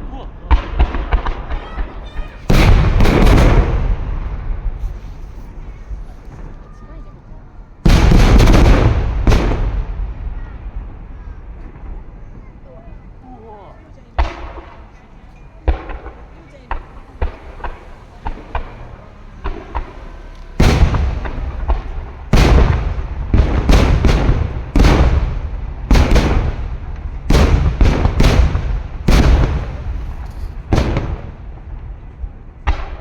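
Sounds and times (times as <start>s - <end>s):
fireworks booming: 0.0s - 33.0s
fireworks popping: 0.4s - 13.3s, 13.9s - 33.0s.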